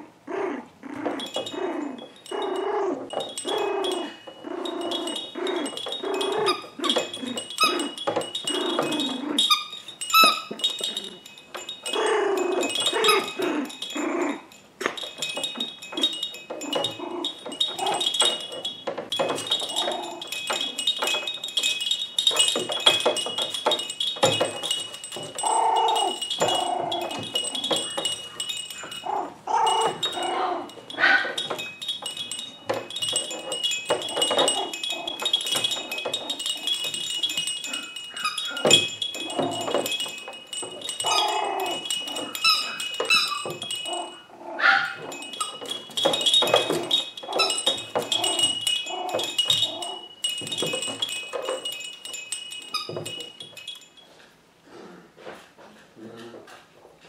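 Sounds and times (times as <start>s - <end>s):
puppy play vocalizations: 0.2s - 23.5s, 24.4s - 51.6s
baby toy jingling: 0.8s - 54.2s
toy knocks and rattles: 0.8s - 54.4s.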